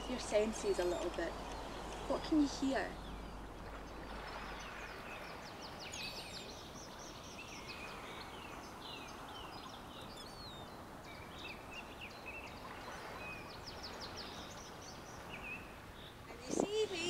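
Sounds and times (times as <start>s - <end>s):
outdoor background hiss: 0.0s - 17.0s
small birds chirping: 0.0s - 17.0s.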